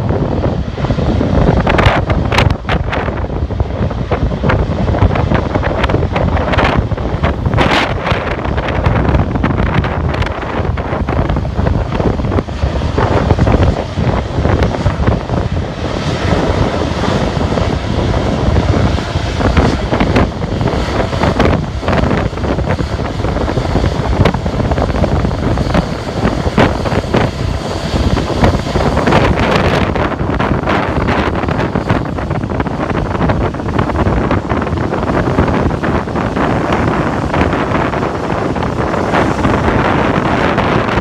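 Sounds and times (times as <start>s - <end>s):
airliner jet engines: 0.0s - 41.0s
wind buffeting microphone: 0.0s - 41.0s.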